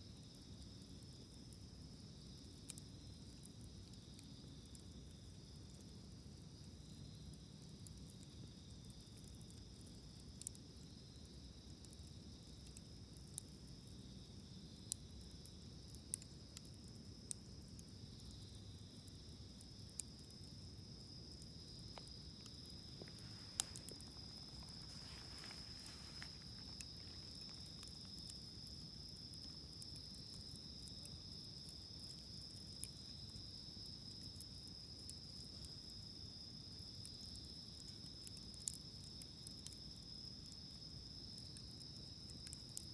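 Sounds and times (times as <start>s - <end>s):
campfire crackling: 0.0s - 42.9s
insects chirring: 0.0s - 42.9s.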